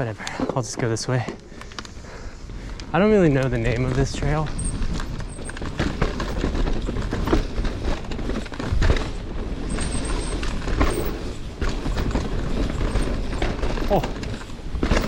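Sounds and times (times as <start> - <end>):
bike tyres rolling over dirt: 0.0 - 15.0
bike rattling and knocking: 0.3 - 15.0.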